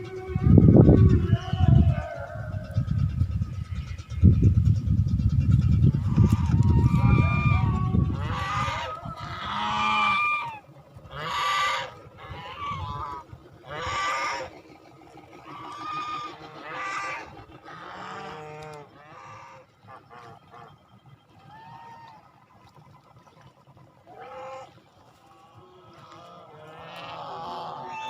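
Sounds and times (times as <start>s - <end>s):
geese honking: 5.4s - 28.0s.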